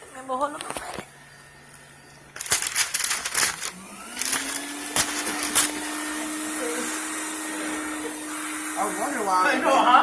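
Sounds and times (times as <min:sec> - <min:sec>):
vacuum cleaner motor whine: 0:00.3 - 0:10.0.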